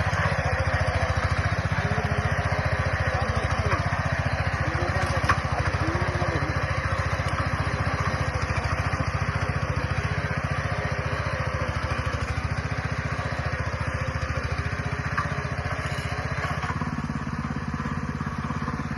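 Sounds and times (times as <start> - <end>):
engine running steadily: 0.0 - 18.9.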